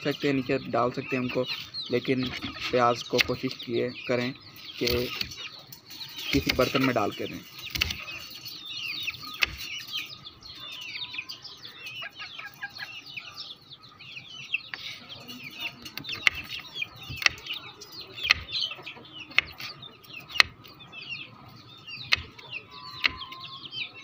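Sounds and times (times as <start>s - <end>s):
young chickens peeping: 0.0s - 24.0s.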